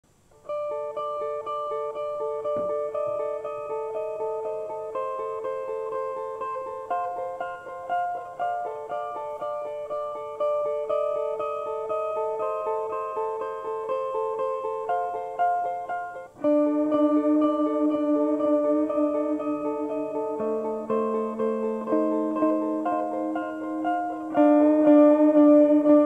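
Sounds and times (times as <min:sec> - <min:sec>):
plucked string arpeggio: 0:00.4 - 0:26.0.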